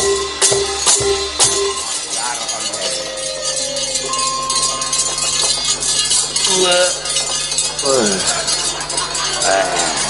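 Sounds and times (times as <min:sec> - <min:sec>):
bright metallic jingling: 0:00.0 - 0:10.0
long ringing gong tones: 0:00.0 - 0:10.0.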